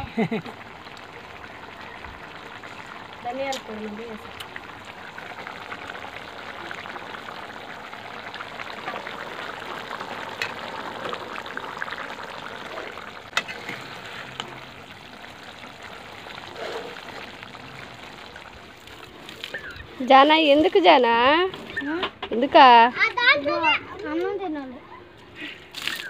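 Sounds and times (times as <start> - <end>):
curry simmering and bubbling: 0.0 - 22.6
ladle stirring in a pan: 0.6 - 21.8.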